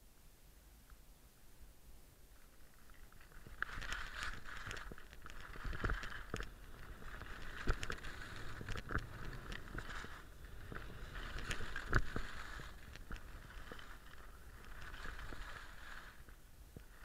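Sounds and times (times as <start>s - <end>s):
skis scraping on snow: 2.4s - 17.0s.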